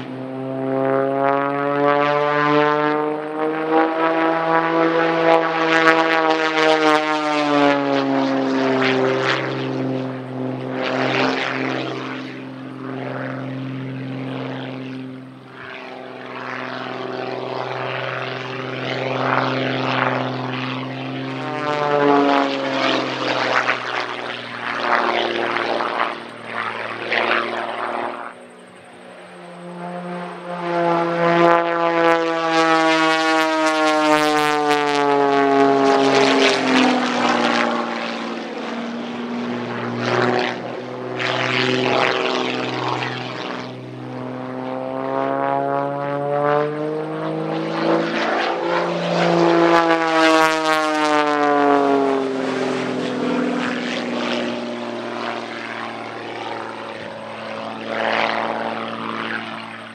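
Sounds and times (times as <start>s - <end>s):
biplane engine and propeller: 0.0s - 59.9s.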